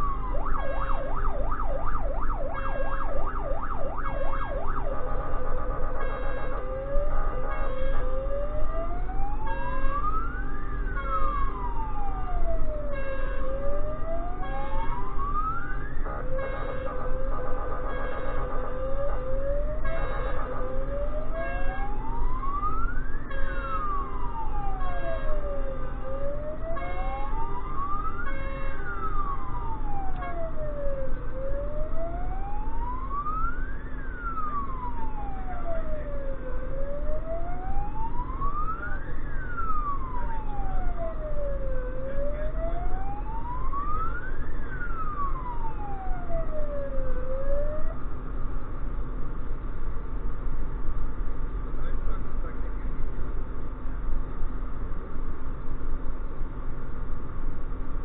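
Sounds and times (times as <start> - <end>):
siren wailing: 0.0 - 48.1
engine drone: 0.0 - 58.0.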